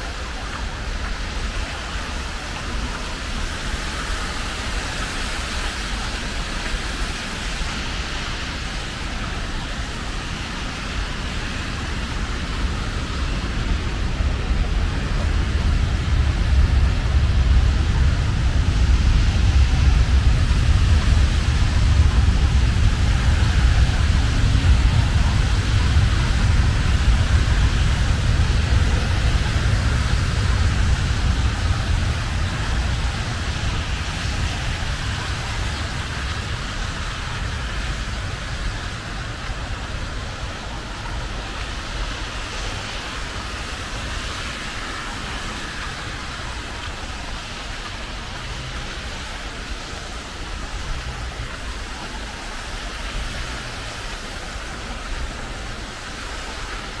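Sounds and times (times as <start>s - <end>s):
road traffic rushing: 0.0s - 57.0s.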